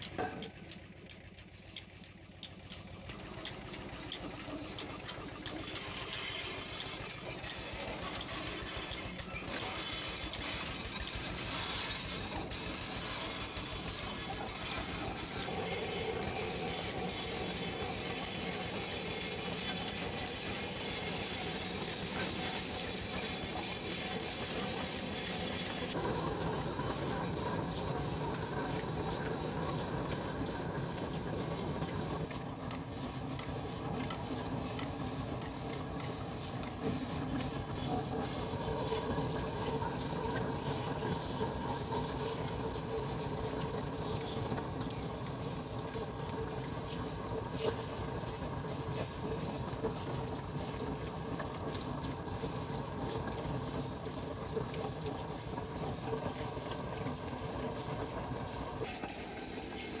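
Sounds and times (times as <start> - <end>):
pipe spinning machine hum: 0.0 - 60.0.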